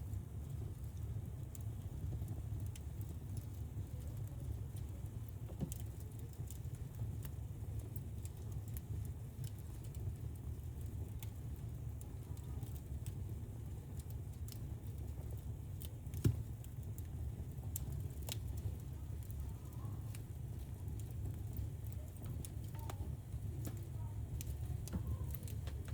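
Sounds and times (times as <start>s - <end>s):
fire crackles and pops: 0.0s - 25.9s
fire flames rumbling: 0.0s - 25.9s.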